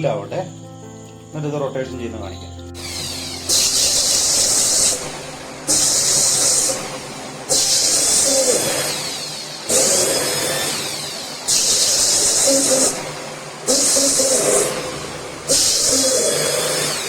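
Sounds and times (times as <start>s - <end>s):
water hissing into washing machine: 2.8s - 17.0s.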